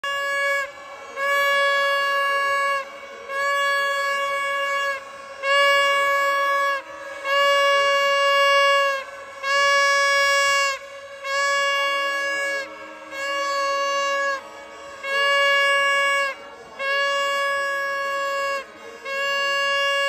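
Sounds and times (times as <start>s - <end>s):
horn long blasts: 0.0s - 20.0s.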